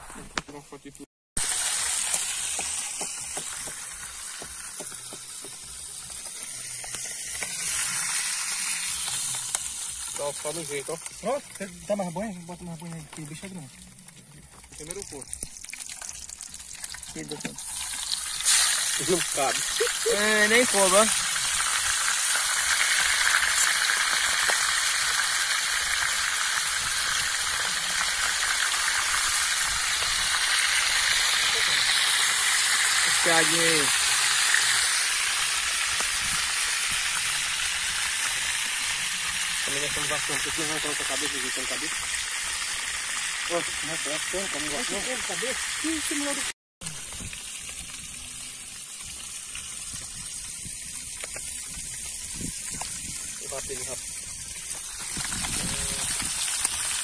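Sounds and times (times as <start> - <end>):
fish frying in hot oil: 1.4 - 57.0.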